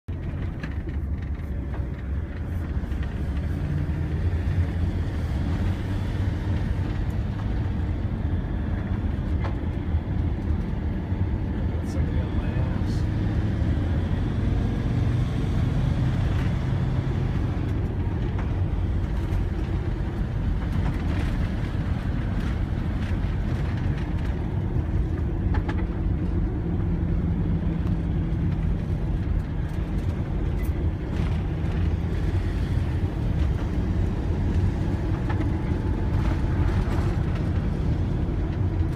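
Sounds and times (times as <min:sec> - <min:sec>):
vehicle engine and tyre rumble: 0:00.0 - 0:38.9.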